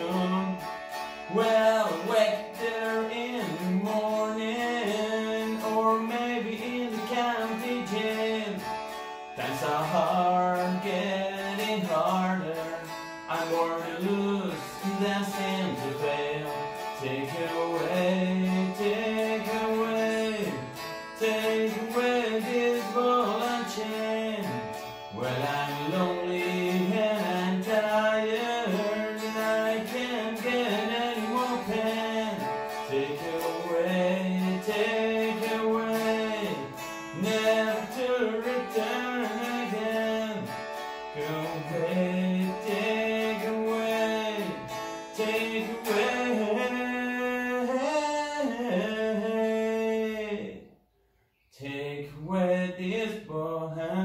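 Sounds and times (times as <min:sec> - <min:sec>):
electric guitar playing: 0:00.0 - 0:50.2
man singing: 0:00.0 - 0:50.8, 0:51.5 - 0:54.0.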